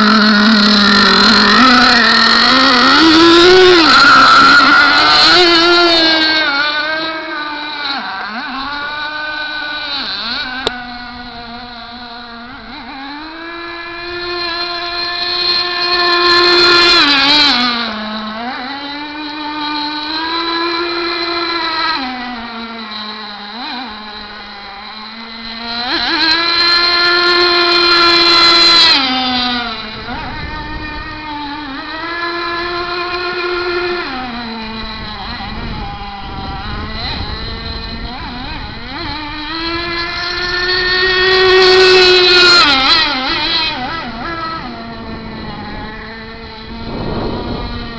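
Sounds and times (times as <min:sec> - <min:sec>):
model boat engine screaming: 0:00.0 - 0:47.9.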